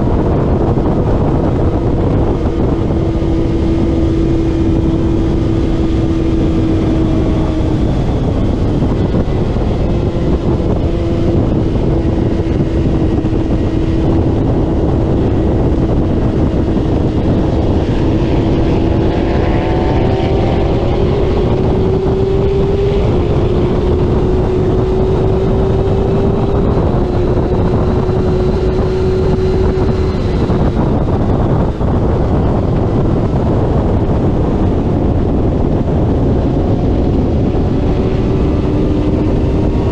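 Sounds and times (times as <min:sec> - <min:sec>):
motorcycle engine at high revs: 0:00.0 - 0:39.9
wind noise on microphone: 0:00.0 - 0:39.9.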